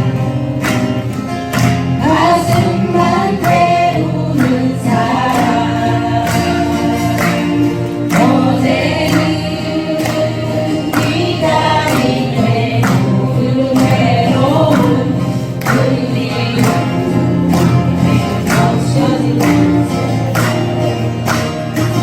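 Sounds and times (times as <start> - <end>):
strummed acoustic guitars: 0.0 - 22.0
voices singing together: 2.0 - 21.9.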